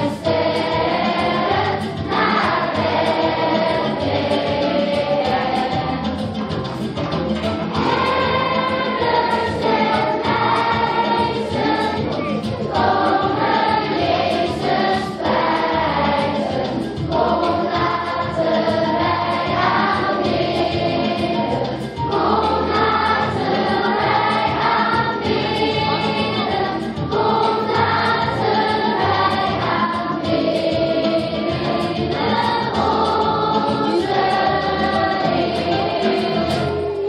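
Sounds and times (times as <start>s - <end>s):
children's choir singing: 0.0s - 6.7s, 7.5s - 37.0s
instrumental backing with bass line: 0.0s - 37.0s.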